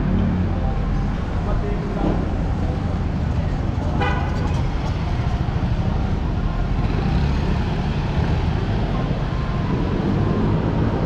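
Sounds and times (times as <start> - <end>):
street traffic passing: 0.0 - 11.0.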